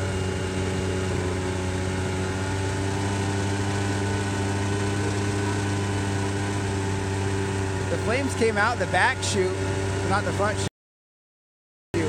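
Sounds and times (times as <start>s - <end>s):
small motor running steadily: 0.0s - 10.7s.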